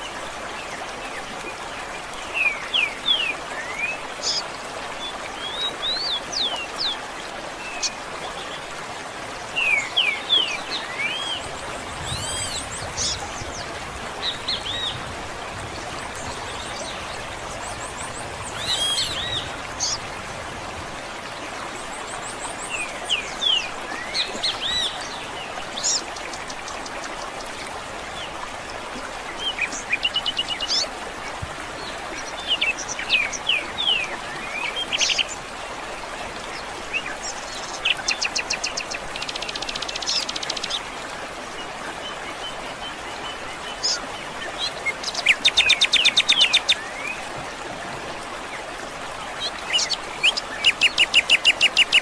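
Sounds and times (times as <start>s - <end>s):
wild birds chirping and trilling: 0.0s - 52.0s.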